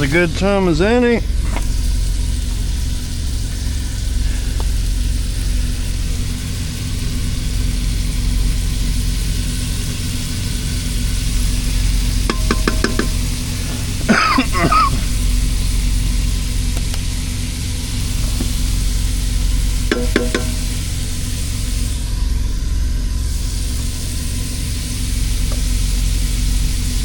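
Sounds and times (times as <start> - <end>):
steady low hum: 0.0 - 27.0
meat sizzling and stirred: 1.5 - 22.0, 23.3 - 27.0.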